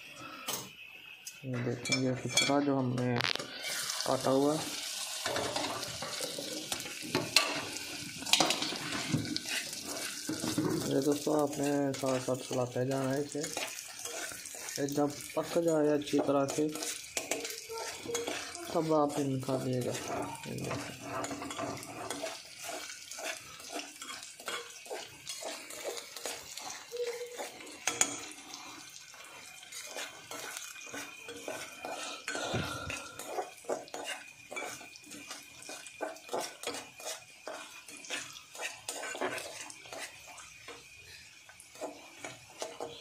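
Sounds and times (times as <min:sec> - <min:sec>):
spoon scraping a saucepan: 0:01.8 - 0:40.9, 0:41.6 - 0:43.0.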